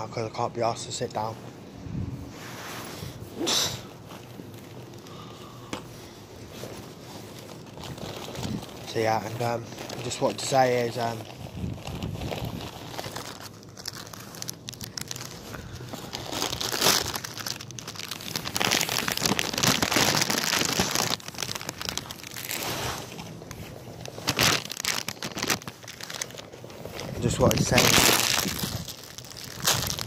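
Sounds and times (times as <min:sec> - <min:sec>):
plastic wrapper crinkling: 0:03.2 - 0:30.0.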